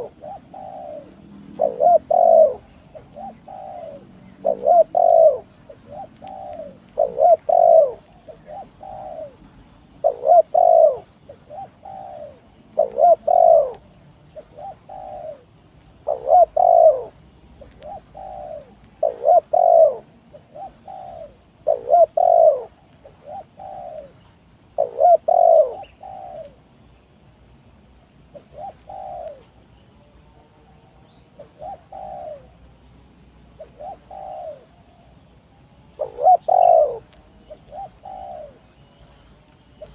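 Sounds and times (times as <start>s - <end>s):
dove cooing: 0.0s - 26.6s, 28.2s - 29.5s, 31.4s - 32.6s, 33.5s - 35.0s, 35.9s - 39.2s.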